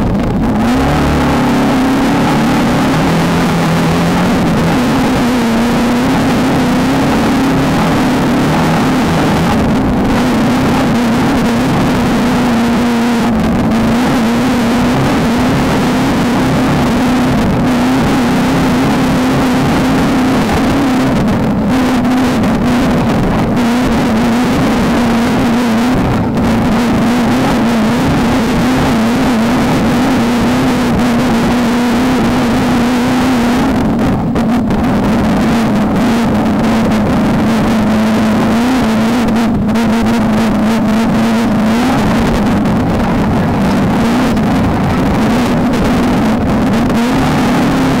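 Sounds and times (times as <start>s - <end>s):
race car engine running hard: 0.0s - 48.0s
wind and road noise: 0.0s - 48.0s.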